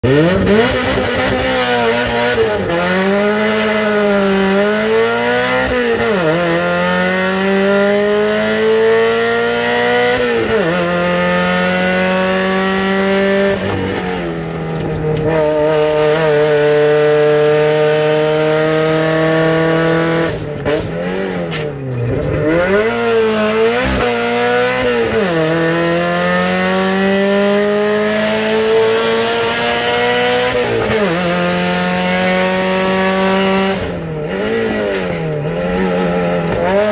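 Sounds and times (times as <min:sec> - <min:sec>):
car engine accelerating hard: 0:00.0 - 0:36.9.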